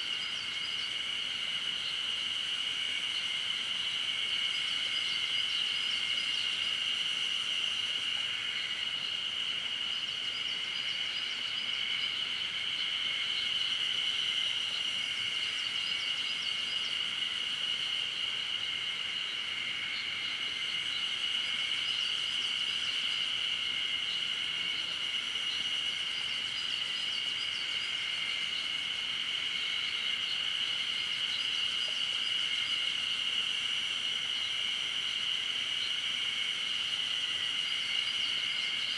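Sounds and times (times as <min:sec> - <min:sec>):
insects singing high drone: 0:00.0 - 0:38.9.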